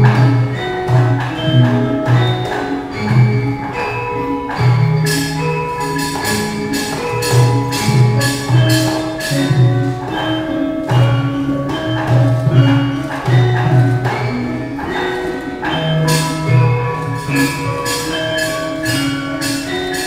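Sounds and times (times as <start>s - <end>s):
gamelan music: 0.0s - 20.0s
sharp percussion strokes: 0.0s - 20.0s.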